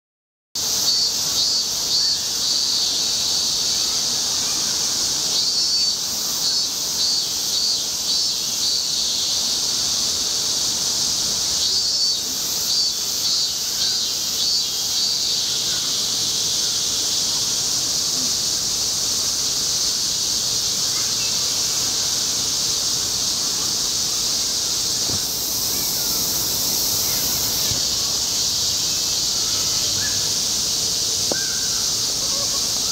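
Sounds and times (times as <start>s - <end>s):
cicada singing short high notes: 0.6s - 32.9s.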